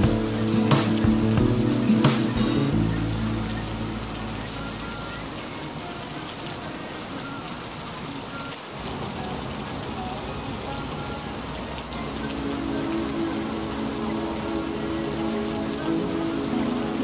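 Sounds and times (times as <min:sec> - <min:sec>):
background music: 0:00.0 - 0:17.0
steady rain falling: 0:00.0 - 0:17.0.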